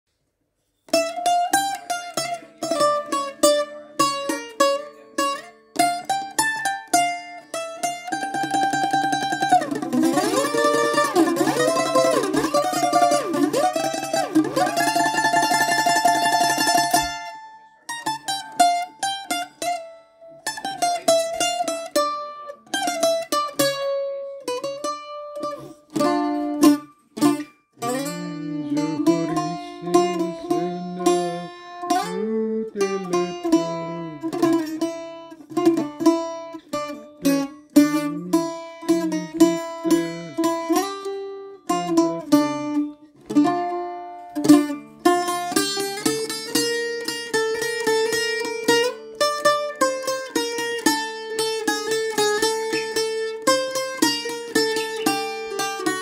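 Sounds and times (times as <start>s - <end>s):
bouzouki melody: 0.4s - 56.0s.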